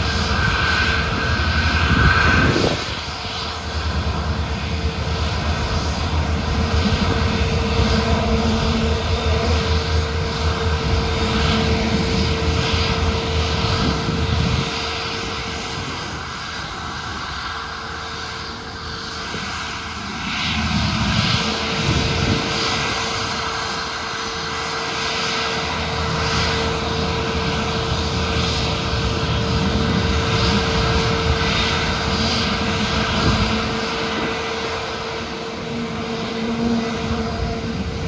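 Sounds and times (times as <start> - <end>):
airliner engine whine: 0.0 - 38.0
deep engine rumble: 0.0 - 38.0.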